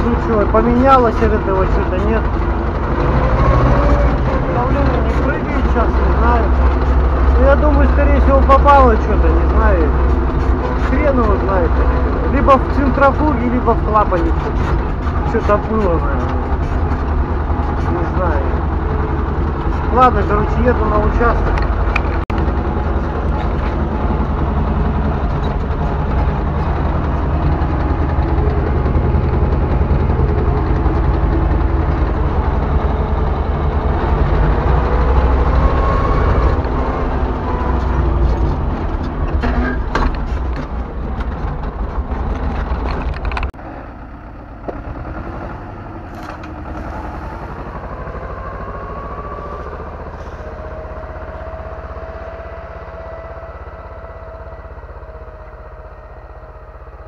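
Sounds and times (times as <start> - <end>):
distant tractor pulling a plow: 0.0 - 57.0
tractor diesel engine running: 0.0 - 57.0.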